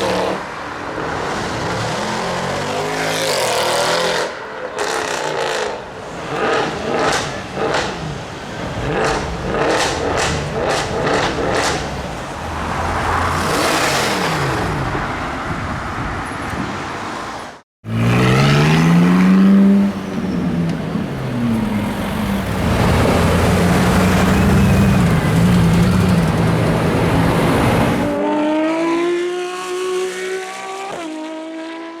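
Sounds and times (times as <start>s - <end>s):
cars accelerating and passing by: 0.0s - 32.0s.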